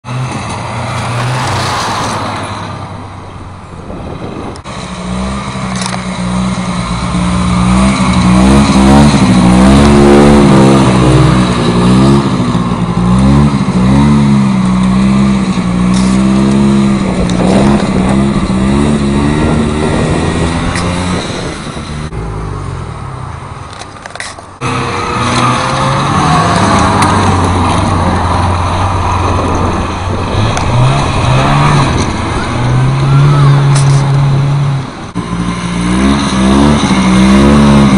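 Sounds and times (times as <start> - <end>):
snowmobile engine revving: 0.0 - 2.9, 3.8 - 23.0, 24.6 - 37.9.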